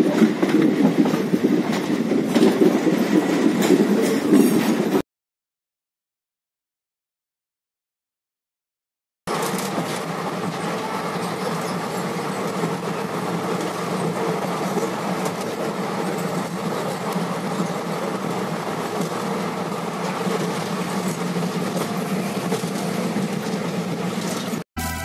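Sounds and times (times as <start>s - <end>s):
train wheels rumbling on rails: 0.0s - 5.0s, 9.3s - 24.6s.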